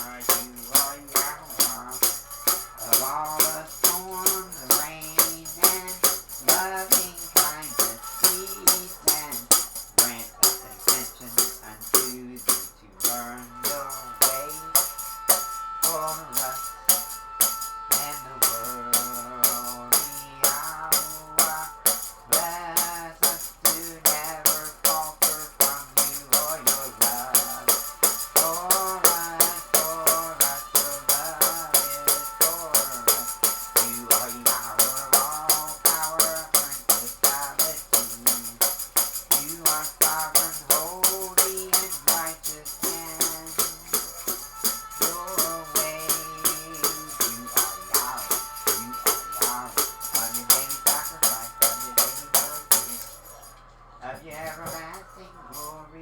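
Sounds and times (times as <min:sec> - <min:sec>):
tambourine beat: 0:00.0 - 0:53.6, 0:54.2 - 0:55.7.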